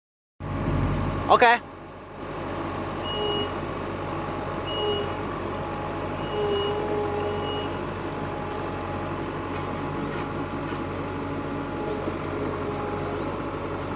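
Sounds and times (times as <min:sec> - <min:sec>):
construction machine engine running: 0:00.4 - 0:13.9.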